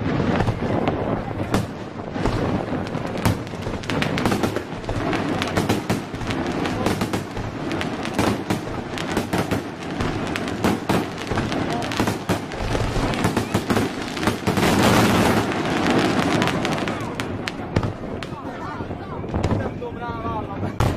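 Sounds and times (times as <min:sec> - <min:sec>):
fireworks crackling: 0:00.0 - 0:20.9.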